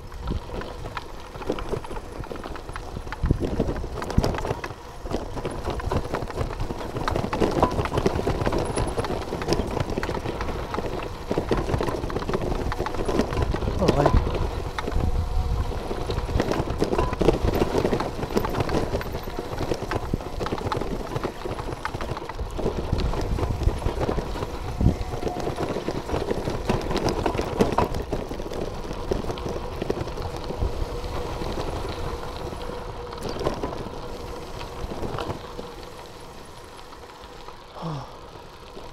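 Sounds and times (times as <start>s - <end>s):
bicycle rattling: 0.0s - 38.9s
bicycle tyres crunching on gravel: 0.0s - 38.9s.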